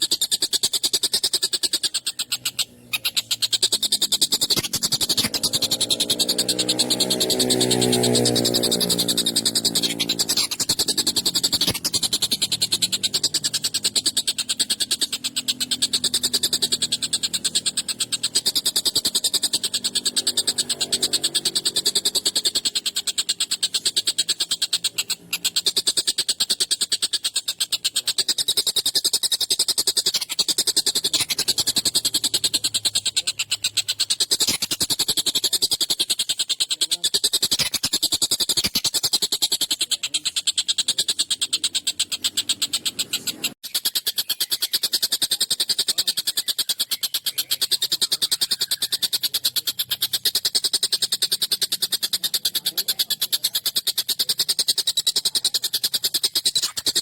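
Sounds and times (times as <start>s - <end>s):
kingfisher rattling chatter: 0.0s - 57.0s.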